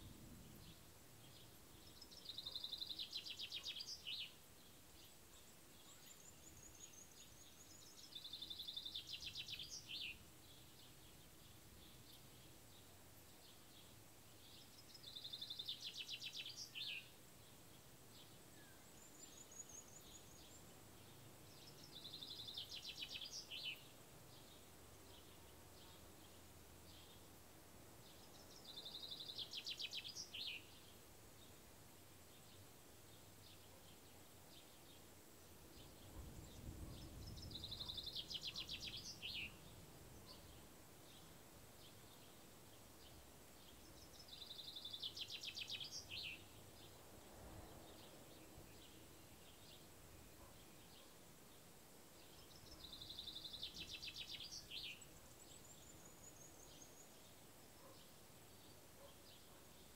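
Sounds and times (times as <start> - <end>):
songbird trilling song: 0.0 - 27.3, 28.0 - 31.7, 32.3 - 59.9.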